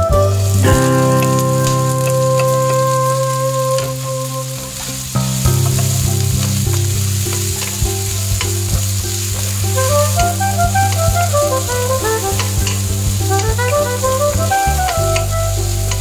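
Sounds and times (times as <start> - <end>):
background music: 0.0 - 16.0
food sizzling in a wok: 0.4 - 16.0.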